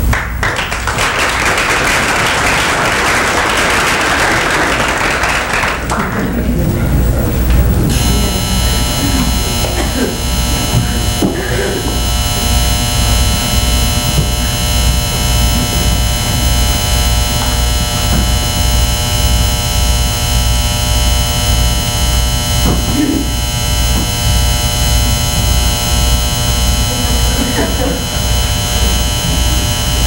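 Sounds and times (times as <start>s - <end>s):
pulsing electrical buzzing hum: 0.0s - 30.0s.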